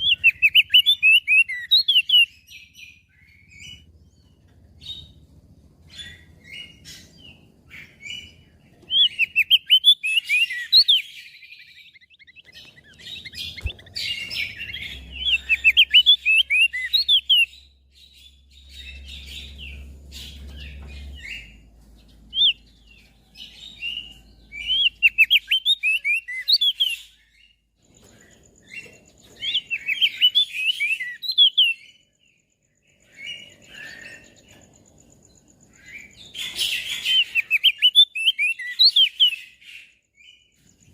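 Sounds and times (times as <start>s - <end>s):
bird twittering: 0.0s - 5.2s, 5.8s - 32.3s, 32.9s - 40.9s.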